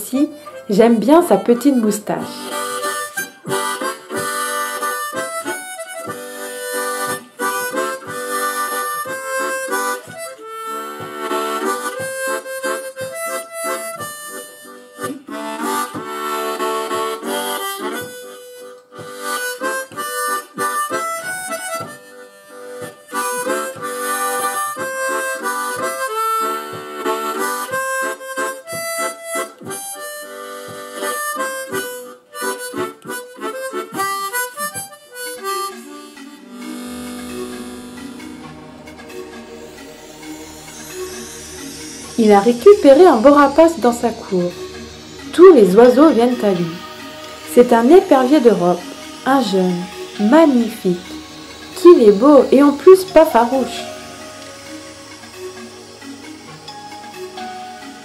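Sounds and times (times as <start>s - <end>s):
harmonica playing: 0.0s - 58.0s.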